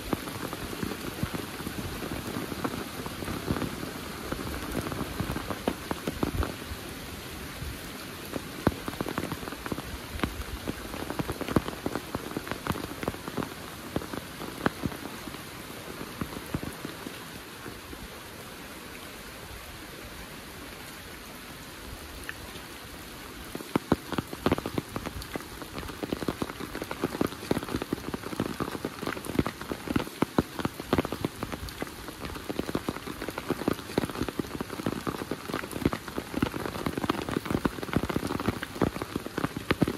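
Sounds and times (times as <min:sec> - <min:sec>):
large raindrops hitting: 0:00.0 - 0:19.4, 0:21.6 - 0:39.9
heavy rain: 0:00.0 - 0:39.9.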